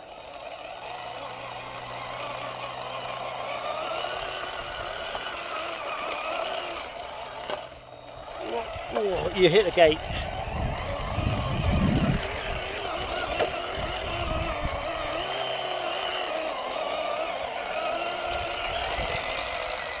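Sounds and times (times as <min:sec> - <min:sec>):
toy car motor whining: 0:00.0 - 0:20.0.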